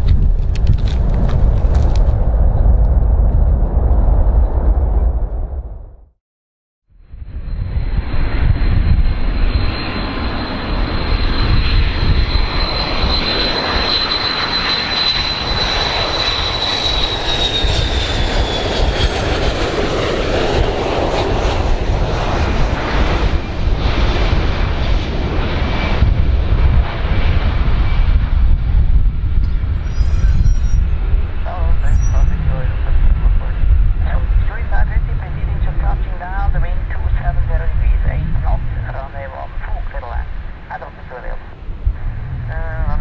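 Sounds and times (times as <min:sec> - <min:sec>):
jet engines roaring with high whine: 0:07.0 - 0:43.0.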